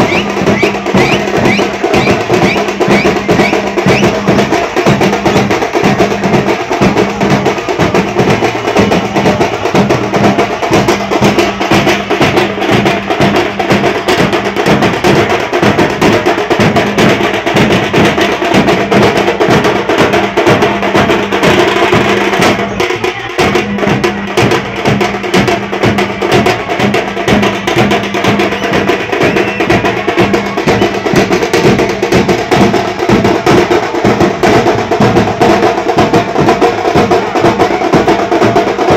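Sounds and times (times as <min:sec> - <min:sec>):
steel drums beaten fast: 0:00.0 - 0:38.9.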